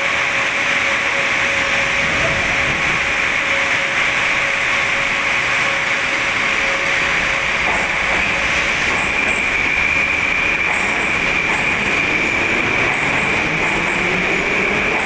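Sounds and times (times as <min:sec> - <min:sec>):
metro train pulling away: 0:00.0 - 0:15.0.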